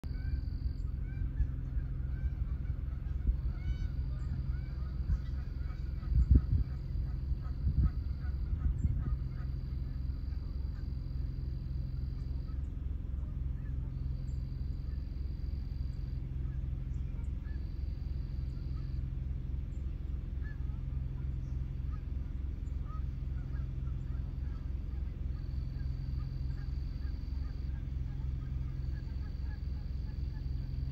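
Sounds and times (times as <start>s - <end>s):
geese calling: 0.0s - 30.9s
steady low hum: 0.0s - 30.9s.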